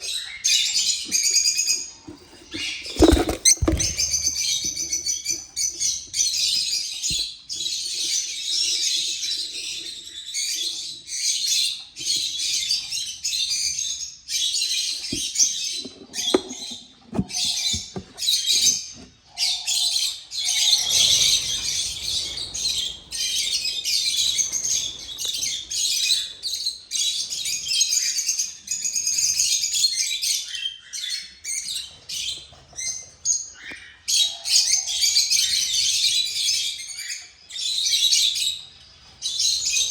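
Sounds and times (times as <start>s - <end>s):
cage birds chirping: 0.0s - 39.9s.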